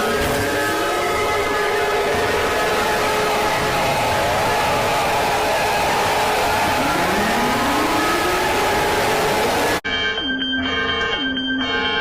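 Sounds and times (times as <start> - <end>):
harsh noisy alert drone: 0.0 - 10.2.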